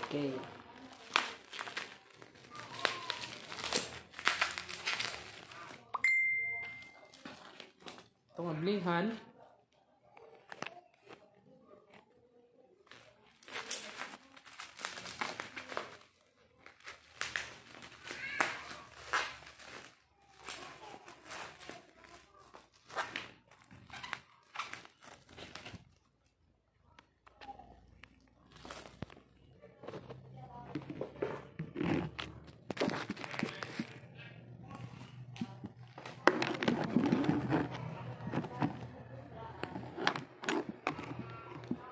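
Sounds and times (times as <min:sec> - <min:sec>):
plastic packaging crinkling: 0:00.0 - 0:05.9, 0:06.7 - 0:08.4, 0:12.8 - 0:26.4, 0:27.4 - 0:41.9.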